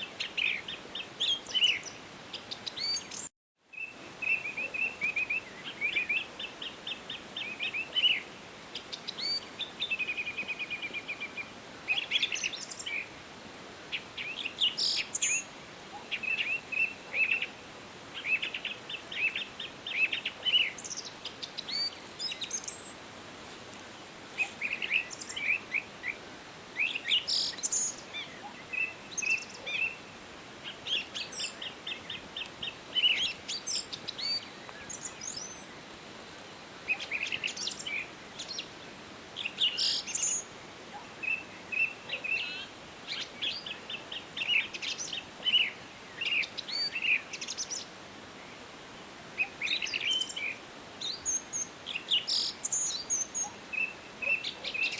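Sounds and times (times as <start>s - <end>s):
songbirds chirping and trilling: 0.0s - 54.9s
steady background hiss: 0.0s - 54.9s.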